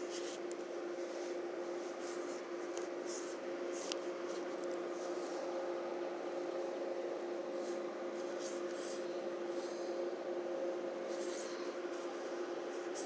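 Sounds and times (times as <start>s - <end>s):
steady two-tone hum: 0.0s - 13.0s.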